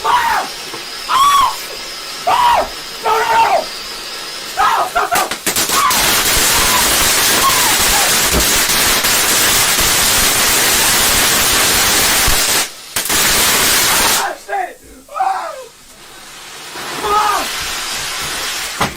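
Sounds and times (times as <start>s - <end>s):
firework hissing and crackling: 0.0s - 18.9s.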